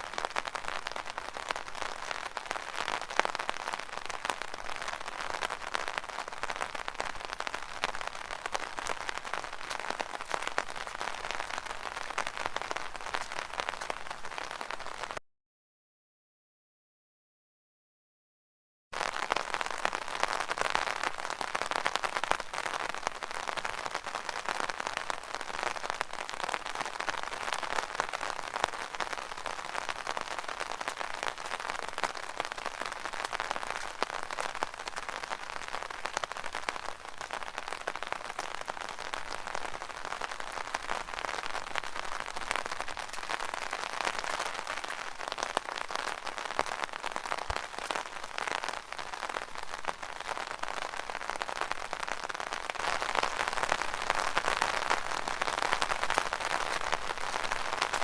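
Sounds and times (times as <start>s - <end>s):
rain pattering on an umbrella: 0.0s - 15.2s, 19.0s - 58.0s.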